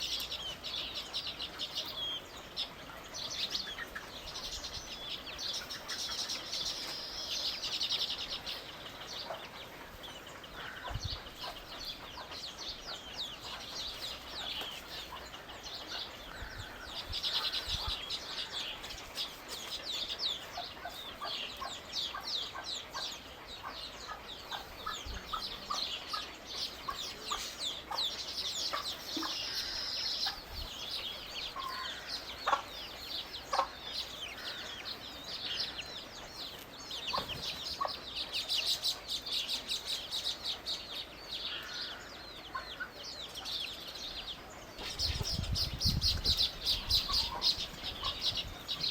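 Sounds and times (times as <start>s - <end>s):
birds chirping and twittering: 0.0s - 48.9s.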